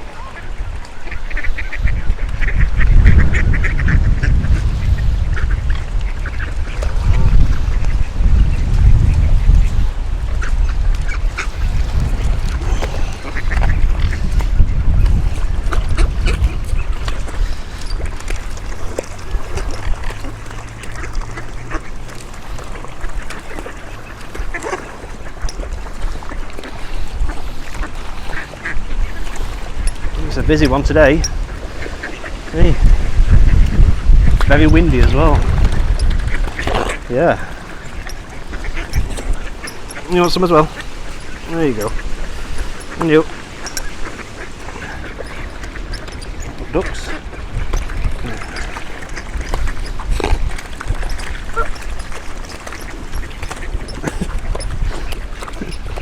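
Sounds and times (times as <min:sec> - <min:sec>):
ducks quacking: 0:00.0 - 0:56.0
wind buffeting microphone: 0:00.0 - 0:56.0.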